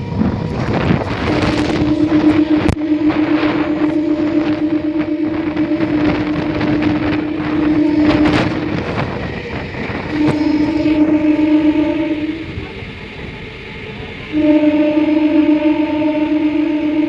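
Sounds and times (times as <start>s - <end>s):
wind on microphone: 0.0s - 14.3s
train coaches rattling and rumbling: 0.0s - 17.0s.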